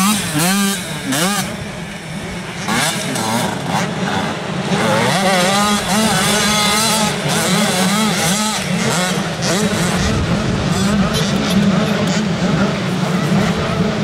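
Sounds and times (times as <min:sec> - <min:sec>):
motocross bikes racing: 0:00.0 - 0:14.0.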